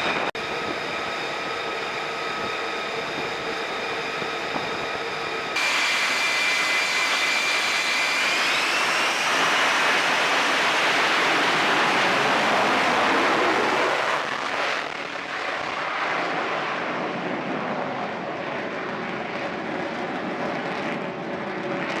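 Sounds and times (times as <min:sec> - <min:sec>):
jet engine whine and roar: 0:00.0 - 0:22.0.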